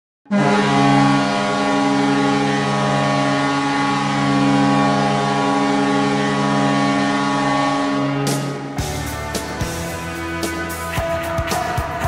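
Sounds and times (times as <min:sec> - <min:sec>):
air horn chord: 0:00.3 - 0:12.0.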